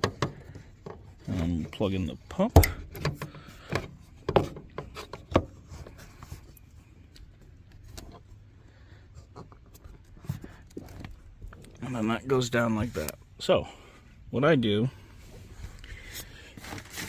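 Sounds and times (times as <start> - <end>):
faint handling noise: 0.0 - 14.2, 14.9 - 17.0.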